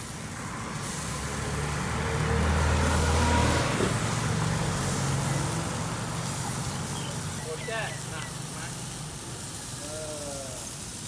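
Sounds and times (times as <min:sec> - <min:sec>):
vehicle engine passing by: 0:00.0 - 0:09.8
street traffic noise: 0:00.0 - 0:11.0.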